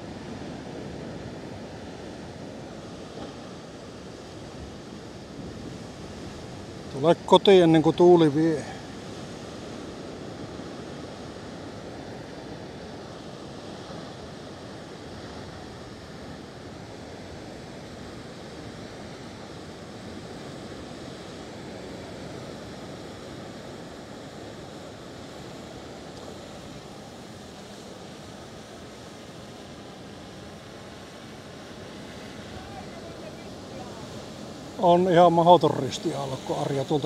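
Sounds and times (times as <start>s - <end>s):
ocean surf: 0.0s - 37.0s.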